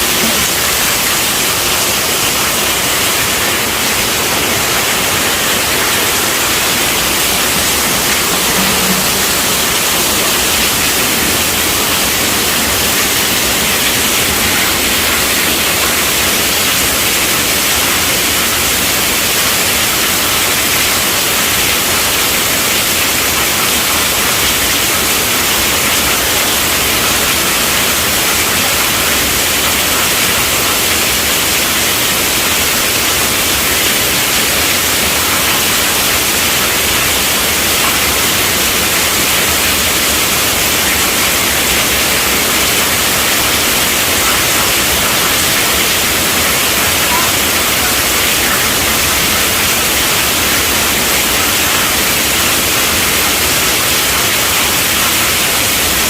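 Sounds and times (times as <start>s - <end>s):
heavy rain on a tent roof: 0.0s - 56.0s.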